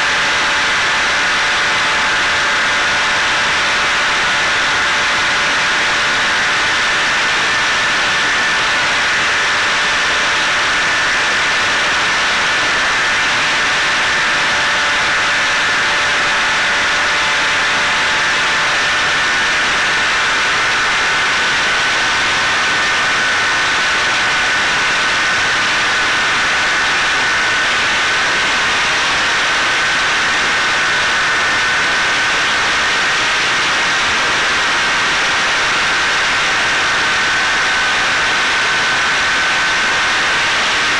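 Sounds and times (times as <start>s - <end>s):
electric motor and propeller whine: 0.0s - 40.9s.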